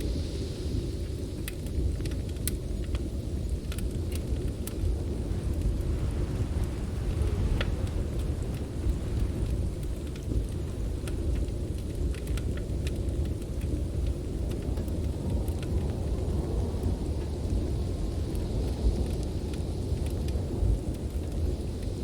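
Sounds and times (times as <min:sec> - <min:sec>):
storm wind rumble: 0:00.0 - 0:22.0
wood fire crackling: 0:00.0 - 0:22.0.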